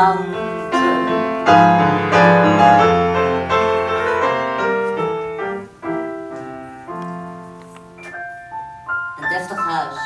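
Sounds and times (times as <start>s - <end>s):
piano chords and melody: 0.0s - 10.0s.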